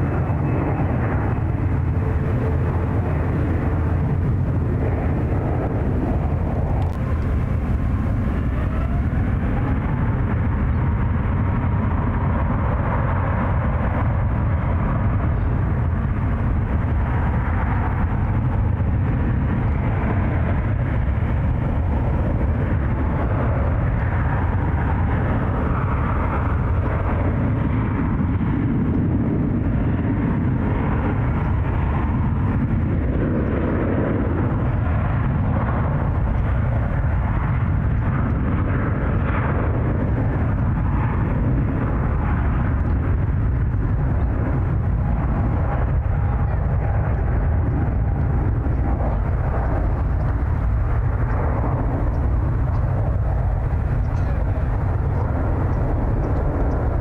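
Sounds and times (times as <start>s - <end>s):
jet engine rumble with whine: 0.0s - 57.0s.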